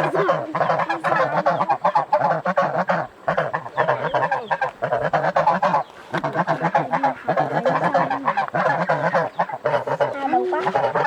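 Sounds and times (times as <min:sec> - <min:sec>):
geese honking and cackling: 0:00.0 - 0:11.0.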